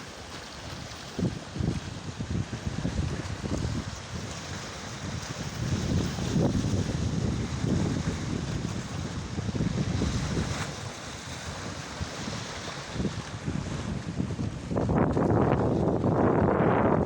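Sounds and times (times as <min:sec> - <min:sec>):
stormy sea rushing: 0:00.0 - 0:17.0
wind buffeting microphone: 0:00.0 - 0:17.0.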